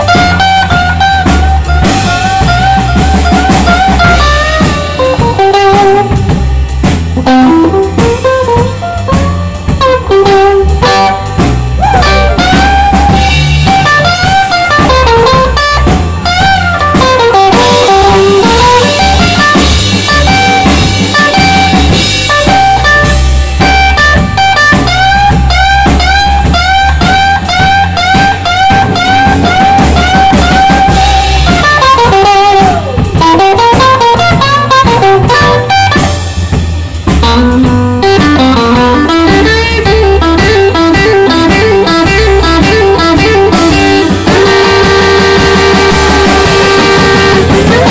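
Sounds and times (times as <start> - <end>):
drum kit: 0.0 - 47.9
electric bass: 0.0 - 47.9
electric guitar solo: 0.0 - 47.9.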